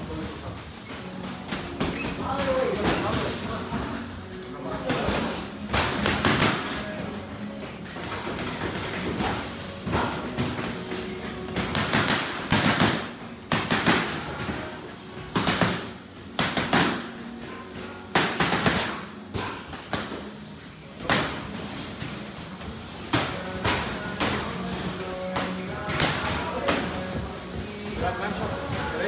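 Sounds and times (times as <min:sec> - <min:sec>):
background music: 0:00.0 - 0:29.0
boxing gloves hitting mitts: 0:04.8 - 0:29.0.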